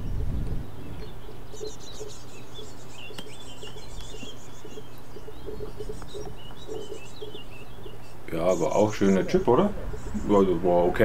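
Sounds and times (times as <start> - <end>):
birds chirping and twittering: 0.0 - 11.0.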